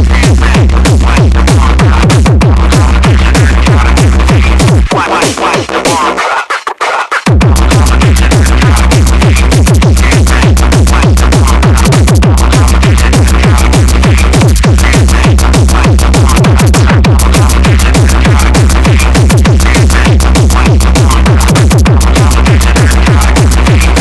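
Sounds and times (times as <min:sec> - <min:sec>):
loud techno music: 0:00.0 - 0:24.0.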